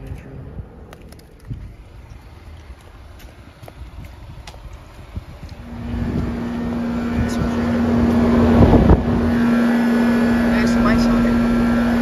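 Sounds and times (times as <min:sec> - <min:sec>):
heat pump fan humming: 0:01.9 - 0:12.0.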